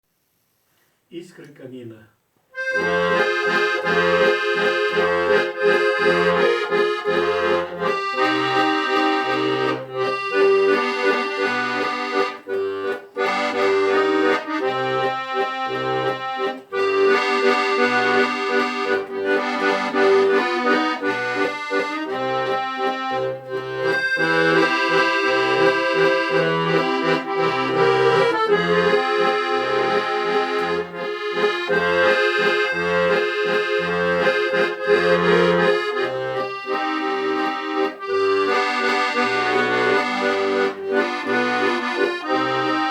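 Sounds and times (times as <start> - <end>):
accordion music: 2.5 - 42.9.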